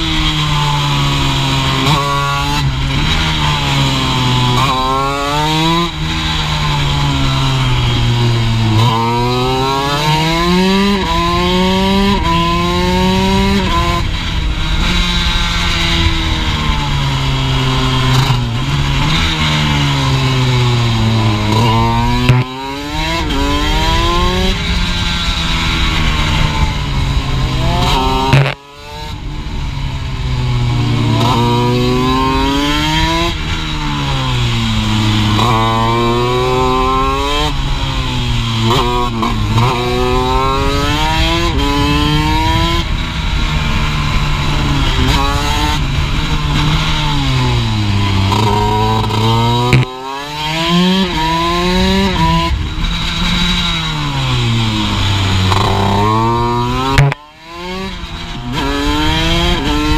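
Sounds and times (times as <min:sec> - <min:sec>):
motorcycle engine at full throttle: 0:00.0 - 0:59.9.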